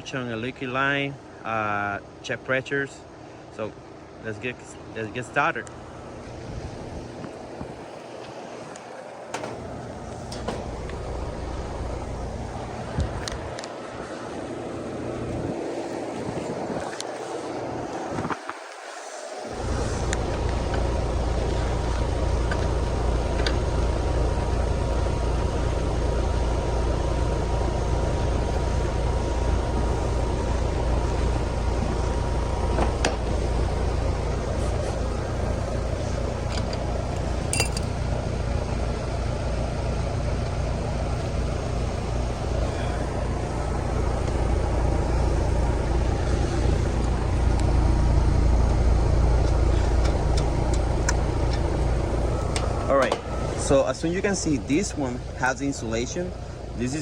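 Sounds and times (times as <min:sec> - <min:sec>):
compressor humming: 0:00.0 - 0:57.0
fan airflow rushing: 0:00.0 - 0:57.0.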